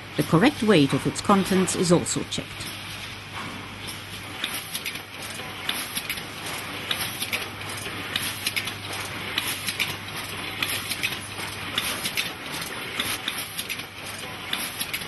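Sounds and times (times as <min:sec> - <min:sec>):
steady low machine hum: 0:00.0 - 0:13.4
machinery clicking and clattering: 0:00.2 - 0:15.0.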